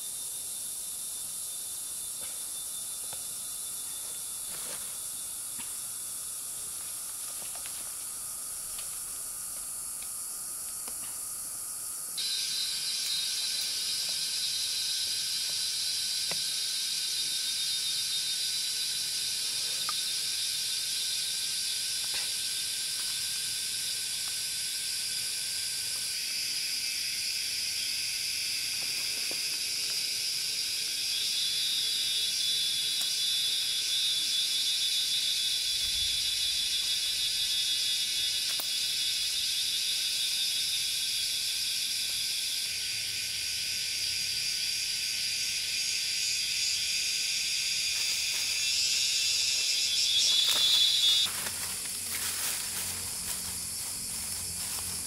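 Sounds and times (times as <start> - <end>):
insect chorus buzzing: 0.0 - 55.0.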